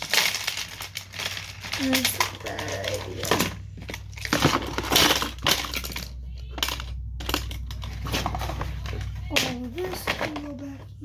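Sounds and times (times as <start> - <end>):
rustling of papers: 0.0 - 11.0
small objects clattering: 0.0 - 11.0.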